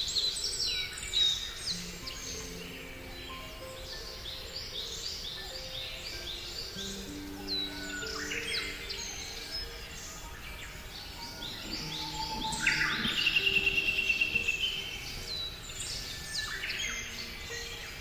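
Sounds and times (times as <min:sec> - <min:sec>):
birds chirping: 0:00.0 - 0:18.0
soft background music: 0:00.0 - 0:18.0
rapid bird trill: 0:01.4 - 0:18.0.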